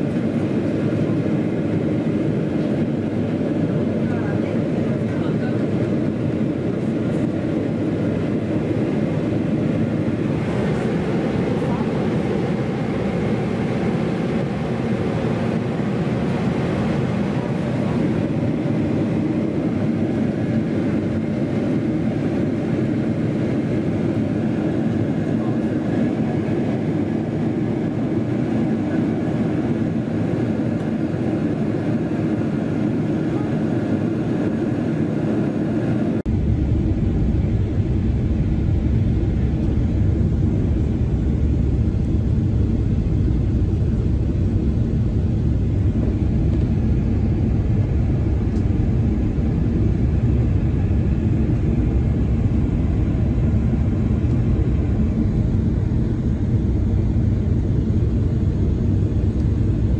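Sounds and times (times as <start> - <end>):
jet cabin rumble and hiss: 0.0 - 59.9.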